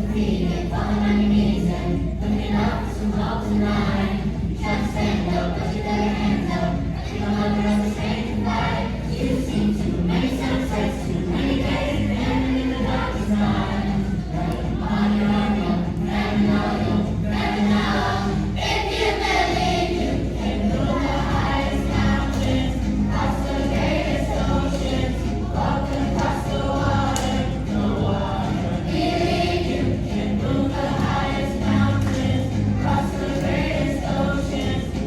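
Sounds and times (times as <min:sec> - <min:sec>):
children's choir singing: 0:00.0 - 0:35.0
musical accompaniment: 0:00.0 - 0:35.0.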